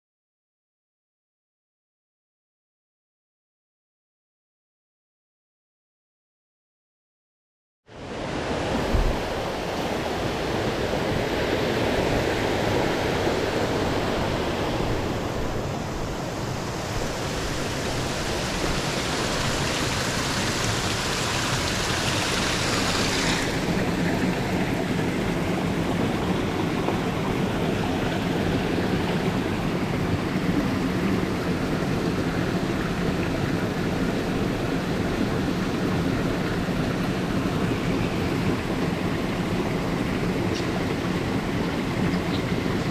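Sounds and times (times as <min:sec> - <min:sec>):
stream rushing over rocks: 0:08.0 - 0:42.9.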